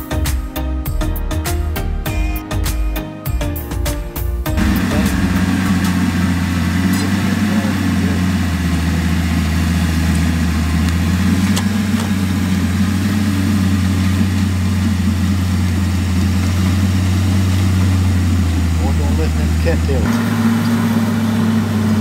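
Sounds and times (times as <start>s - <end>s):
bulldozer diesel engine droning: 3.8s - 22.0s.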